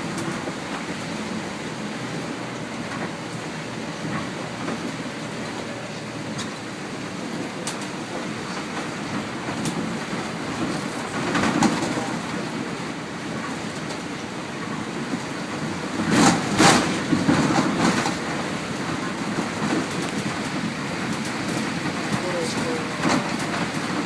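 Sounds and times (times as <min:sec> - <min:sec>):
bus body rattles: 0:00.0 - 0:24.0
bus engine and road drone: 0:00.0 - 0:24.0.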